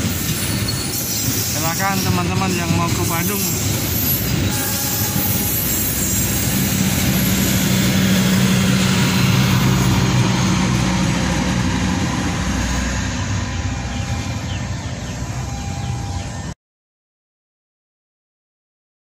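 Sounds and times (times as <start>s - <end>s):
train generator drone: 0.0s - 16.6s
train rumbling on rails: 0.0s - 16.6s.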